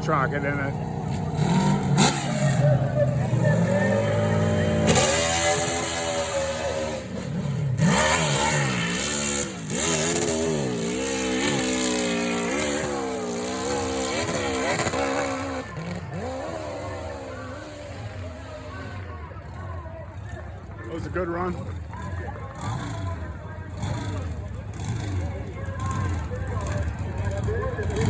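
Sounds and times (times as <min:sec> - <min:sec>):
motorcycle engine revving hard: 0:00.0 - 0:28.0.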